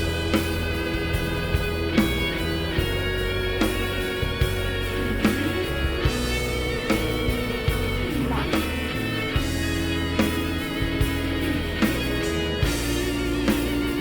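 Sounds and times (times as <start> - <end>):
bass: 0.0 - 14.0
guitar: 0.0 - 14.0
steady drum beat: 0.0 - 14.0.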